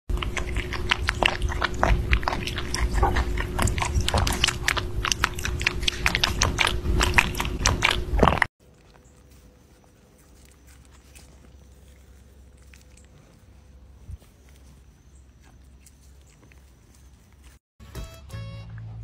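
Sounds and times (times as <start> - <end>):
rabbit chewing strawberries: 0.1 - 17.6.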